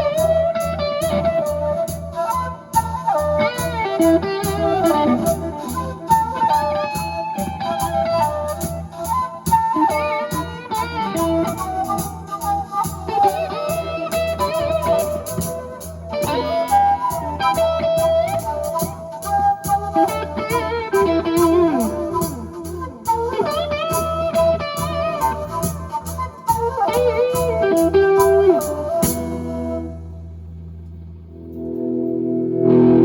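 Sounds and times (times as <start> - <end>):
bass: 0.0 - 33.0
electric guitar with bent notes: 0.0 - 33.0.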